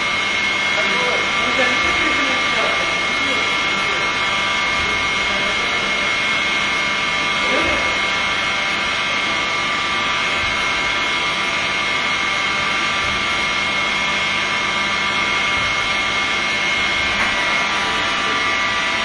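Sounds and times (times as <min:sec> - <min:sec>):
factory machinery whining: 0:00.0 - 0:19.0.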